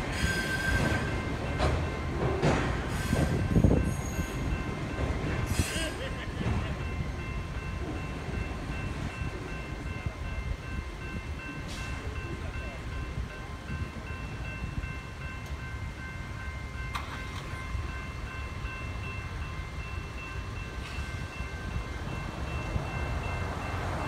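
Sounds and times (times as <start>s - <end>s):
crossing warning bell ringing: 0.0s - 24.0s.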